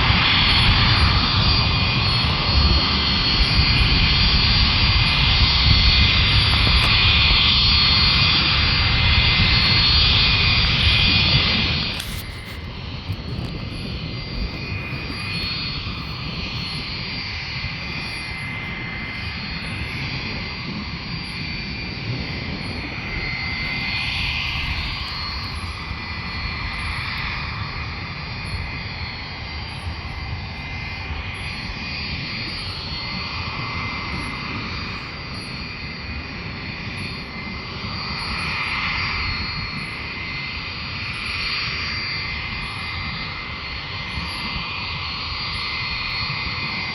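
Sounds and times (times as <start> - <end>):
aircraft turbine engines running: 0.0 - 46.9.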